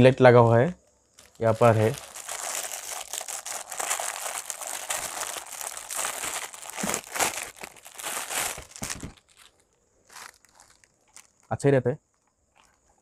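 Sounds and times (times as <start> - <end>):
plastic packaging crinkling: 1.1 - 11.5, 12.1 - 13.0.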